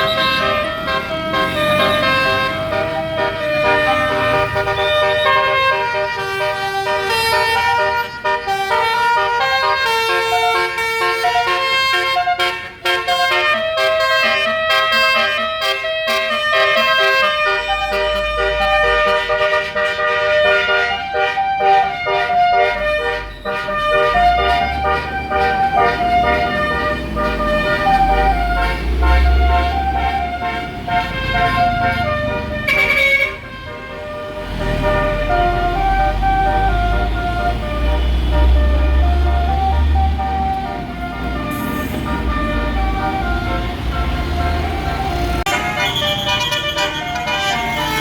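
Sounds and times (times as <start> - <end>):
bus horn playing a melody: 0.0 - 48.0.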